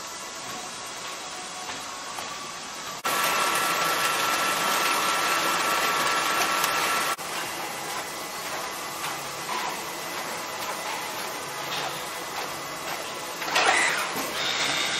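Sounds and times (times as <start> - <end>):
conveyors and drive motors: 0.0 - 14.9.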